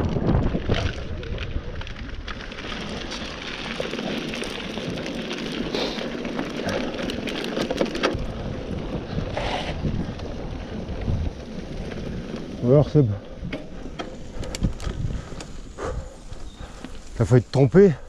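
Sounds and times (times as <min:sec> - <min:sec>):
bike rattling over bumps: 0:00.0 - 0:18.0
tyres rolling over gravel: 0:00.0 - 0:18.0
wind buffeting microphone: 0:00.0 - 0:18.0.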